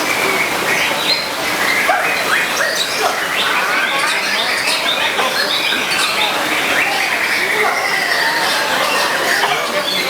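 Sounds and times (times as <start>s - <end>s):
crowd noise: 0.0s - 10.0s
caged songbirds chirping and singing: 0.7s - 10.0s.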